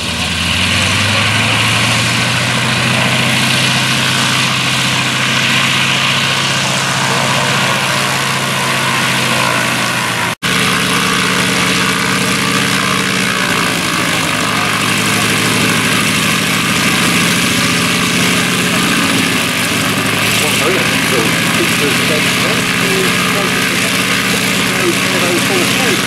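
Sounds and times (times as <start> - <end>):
aircraft radial engine and propeller: 0.0 - 26.0.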